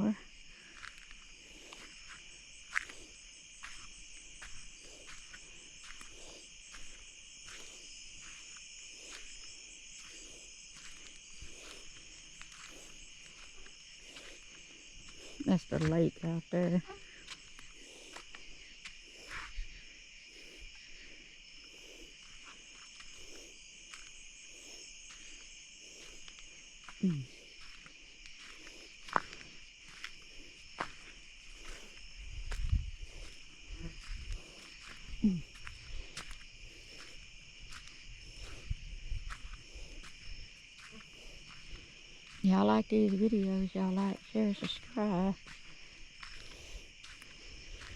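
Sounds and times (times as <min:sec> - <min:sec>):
crickets and insects trilling: 0:00.0 - 0:47.9.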